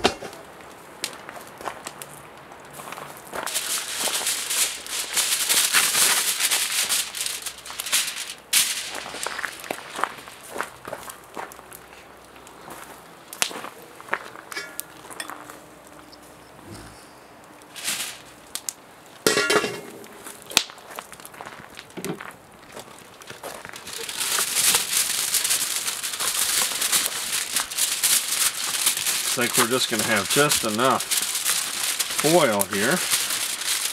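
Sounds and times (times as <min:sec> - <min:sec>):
aluminium foil crinkling: 0:00.7 - 0:16.1, 0:17.6 - 0:33.9.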